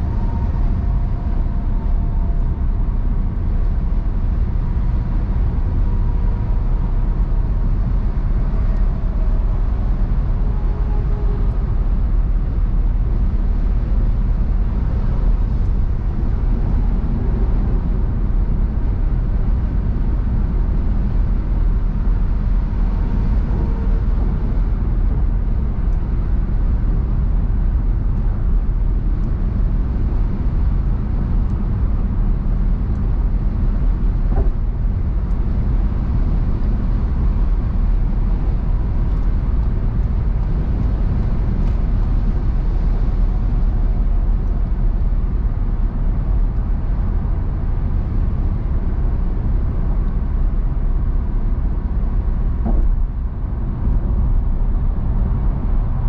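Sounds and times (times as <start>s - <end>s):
car engine hum: 0.0s - 56.0s
tyres rumbling on road: 0.0s - 56.0s.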